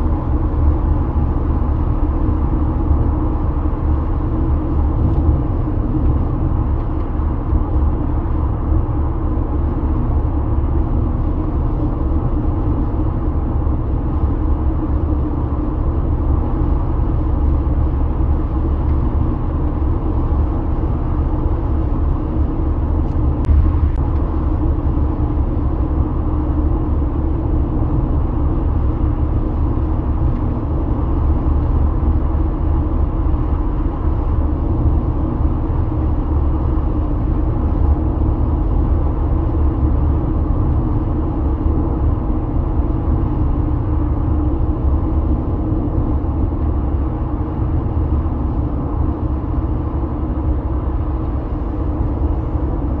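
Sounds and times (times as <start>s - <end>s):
car interior road rumble: 0.0s - 53.0s.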